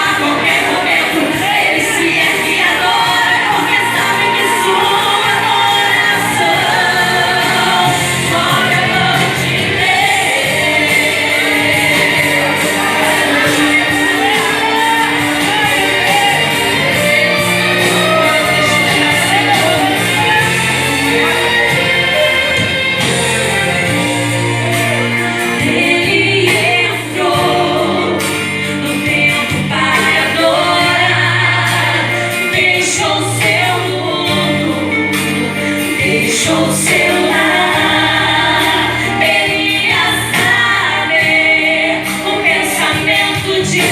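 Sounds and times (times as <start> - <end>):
instrumental accompaniment: 0.0 - 43.9
women singing gospel song: 0.0 - 43.9.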